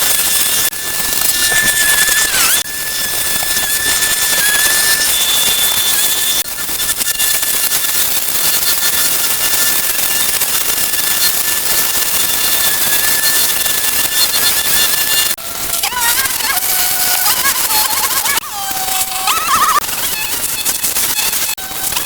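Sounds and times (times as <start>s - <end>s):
high whistling tone: 0.0s - 21.5s.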